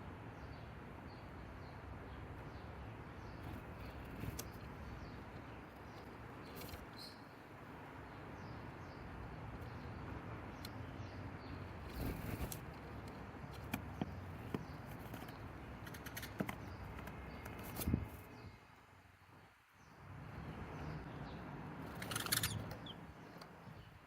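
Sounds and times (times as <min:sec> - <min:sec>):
distant bird chirps: 0:00.4 - 0:18.6, 0:19.8 - 0:24.0.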